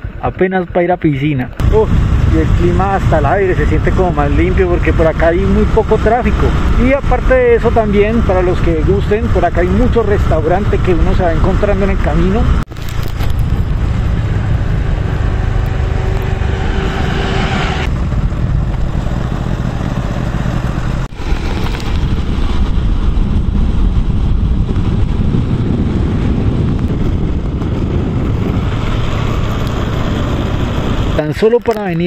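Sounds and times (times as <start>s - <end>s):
wind rushing over microphone: 1.4s - 32.0s
motorcycle engine running: 1.6s - 31.2s.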